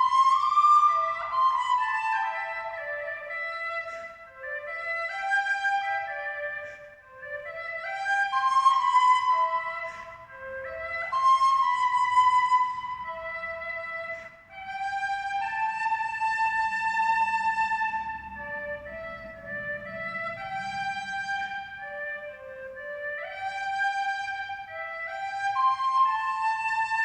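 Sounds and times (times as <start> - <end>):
slow instrumental melody: 0.0 - 27.0.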